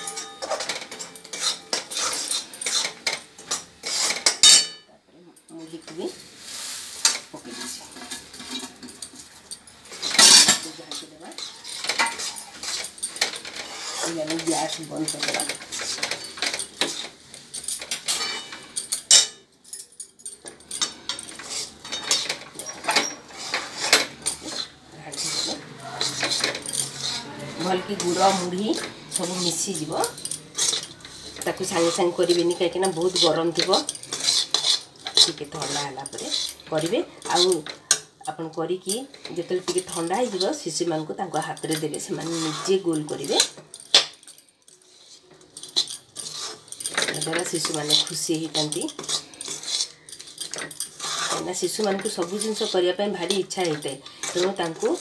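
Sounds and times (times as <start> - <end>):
spatula scraping a wok: 0.0 - 4.8, 5.8 - 19.4, 20.7 - 43.6, 44.7 - 55.0.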